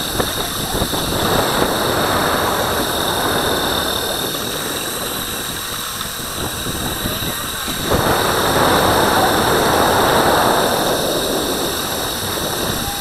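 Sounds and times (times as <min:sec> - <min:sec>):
thin high whine: 0:00.0 - 0:13.0
tyres rushing on asphalt: 0:00.0 - 0:13.0
wind on microphone: 0:00.0 - 0:13.0.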